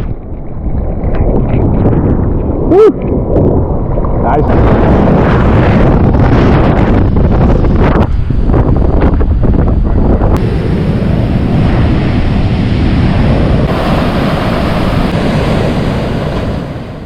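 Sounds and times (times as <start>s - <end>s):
wind buffeting the microphone: 0.0s - 17.0s
heavy surf rushing: 0.8s - 17.0s.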